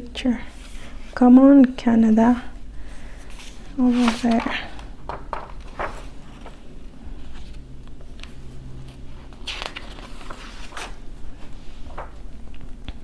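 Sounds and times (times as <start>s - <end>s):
low steady hum: 0.0s - 13.0s
book pages rustling: 0.5s - 1.8s, 3.0s - 13.0s.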